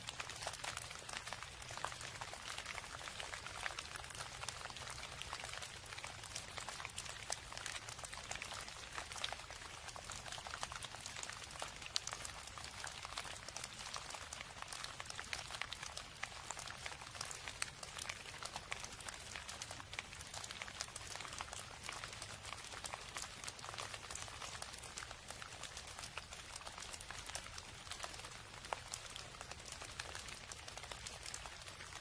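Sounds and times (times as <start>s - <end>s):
raindrops ticking: 0.0s - 32.0s
steady rain: 0.0s - 32.0s.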